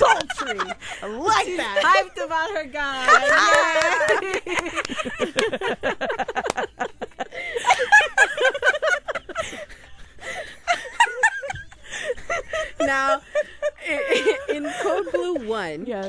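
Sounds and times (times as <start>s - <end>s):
women laughing: 0.0s - 15.7s.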